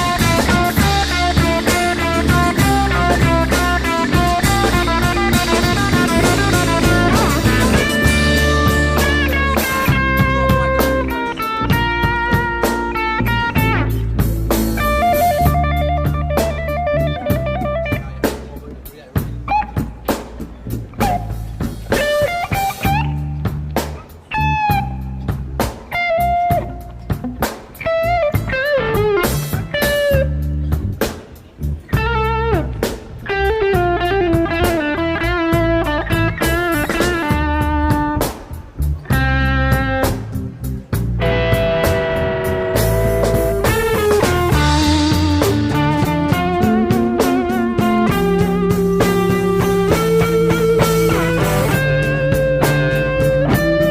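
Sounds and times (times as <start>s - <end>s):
drum beat: 0.0s - 31.0s, 32.0s - 53.9s
electric guitar riff: 0.0s - 53.9s
rock music: 0.0s - 53.9s.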